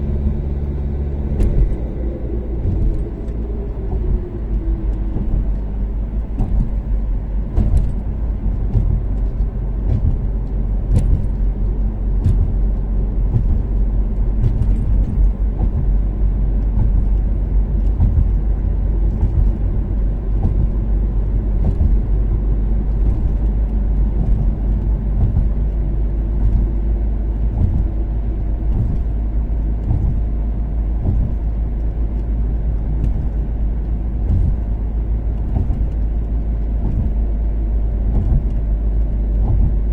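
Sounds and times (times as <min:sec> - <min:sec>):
car engine cruising: 0:00.0 - 0:39.9
low road rumble: 0:00.0 - 0:39.9.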